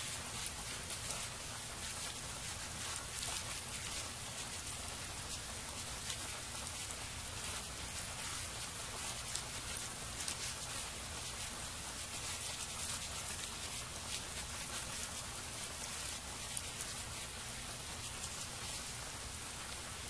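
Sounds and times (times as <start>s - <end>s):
steady rain pattering: 0.0s - 20.0s.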